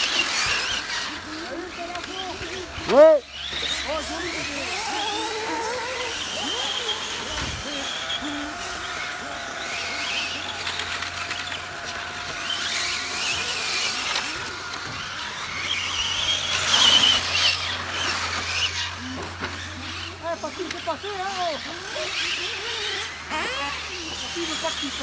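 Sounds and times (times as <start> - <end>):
rc car motor whine: 0.0 - 25.0.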